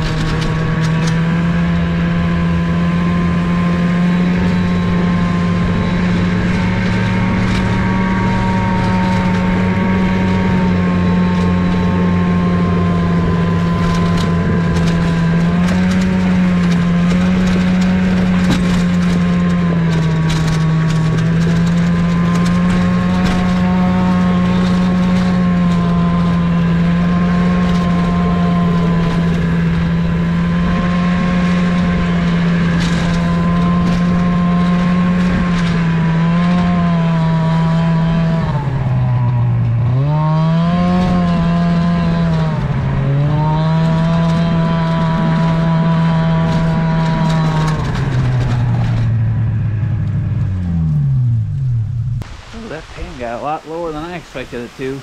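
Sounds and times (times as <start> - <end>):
sled knocking and rattling: 0.0 - 51.7
snowmobile engine running: 0.0 - 55.0.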